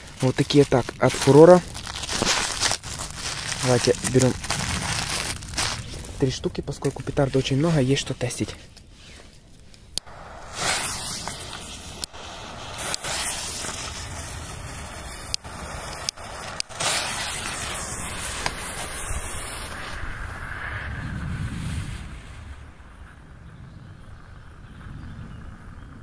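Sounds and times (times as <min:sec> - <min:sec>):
smoke bomb hissing: 0:00.0 - 0:09.4, 0:10.0 - 0:23.1.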